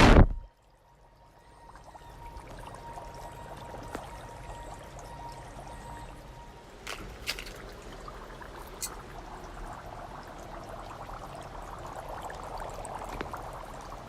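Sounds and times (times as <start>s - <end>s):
dry ice bubbling in water: 0.1s - 14.0s.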